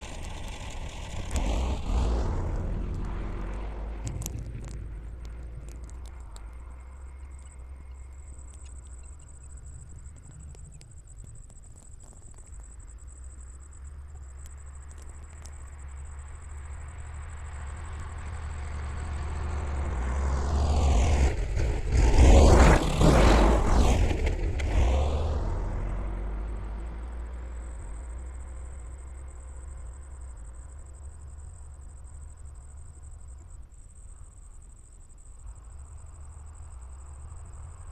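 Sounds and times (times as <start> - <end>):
tractor engine rumbling: 0.0 - 37.9.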